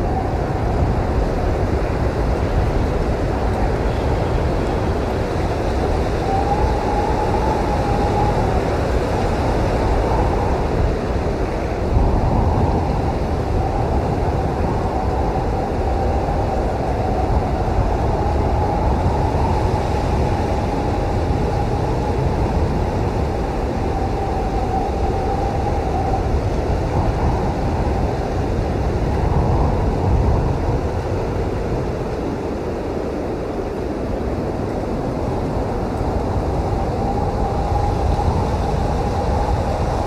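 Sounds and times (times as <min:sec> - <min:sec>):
blizzard wind howling: 0:00.0 - 0:40.0.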